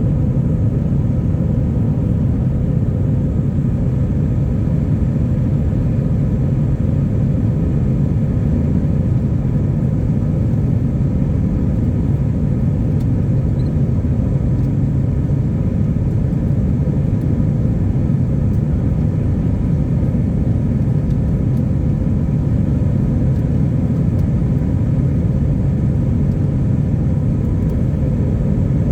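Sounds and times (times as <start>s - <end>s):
airliner cabin engine rumble: 0.0s - 28.9s.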